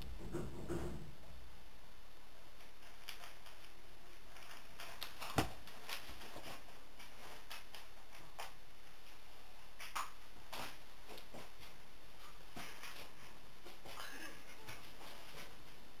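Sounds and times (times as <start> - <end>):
small clicks and rustles: 2.5 - 15.8.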